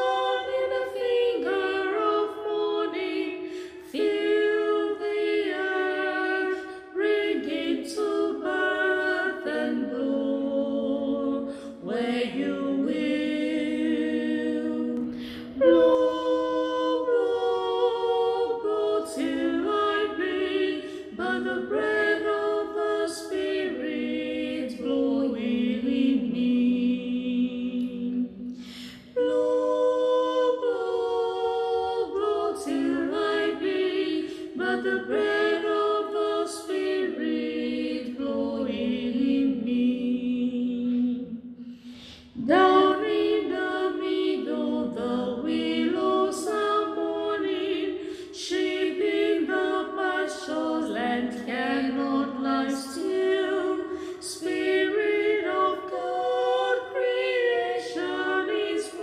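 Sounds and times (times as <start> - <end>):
voices singing a hymn in harmony: 0.0 - 59.0.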